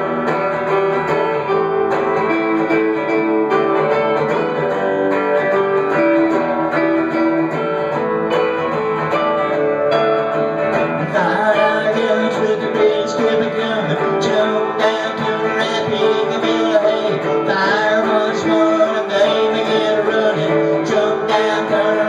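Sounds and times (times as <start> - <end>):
electric guitars playing: 0.0 - 22.0.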